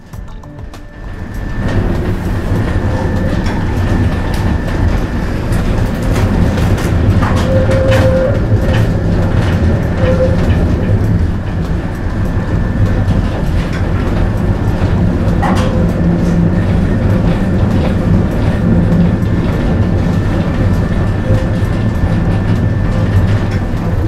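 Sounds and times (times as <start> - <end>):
tram wheels rumbling: 0.0 - 24.0.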